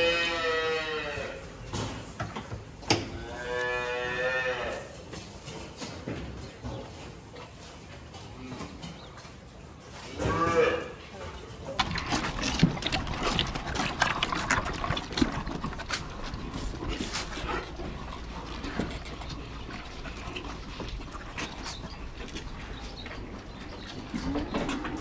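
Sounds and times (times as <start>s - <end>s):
cows crunching feed: 0.0s - 25.0s.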